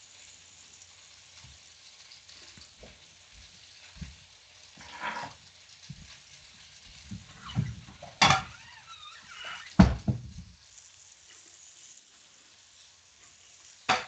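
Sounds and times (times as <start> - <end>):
chicken frying in oil: 0.0 - 14.0.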